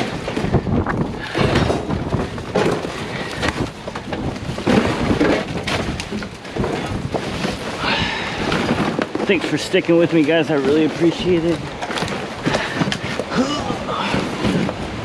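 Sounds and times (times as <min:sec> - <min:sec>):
knocks and rattles: 0:00.0 - 0:15.0
storm wind buffeting microphone: 0:00.0 - 0:15.0.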